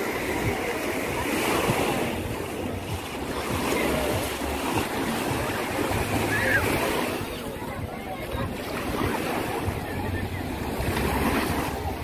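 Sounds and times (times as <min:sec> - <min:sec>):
waves washing onto shore: 0:00.0 - 0:12.0.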